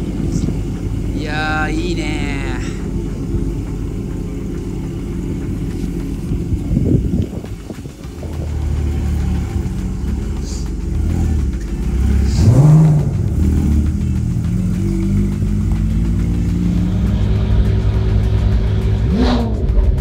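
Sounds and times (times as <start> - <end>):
engine revving: 0.0 - 20.0
sports car engines idling: 0.0 - 20.0.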